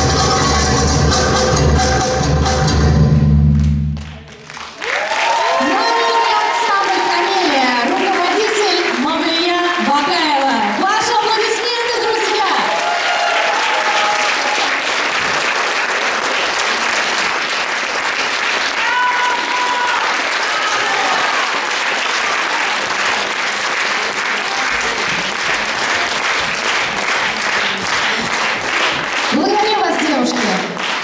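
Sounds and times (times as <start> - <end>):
audience applauding: 3.5 - 31.0.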